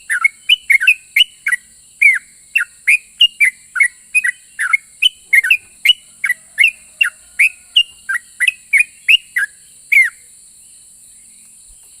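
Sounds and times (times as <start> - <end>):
bulbul whistled song: 0.0 - 10.3
faint steady hiss: 0.0 - 12.0.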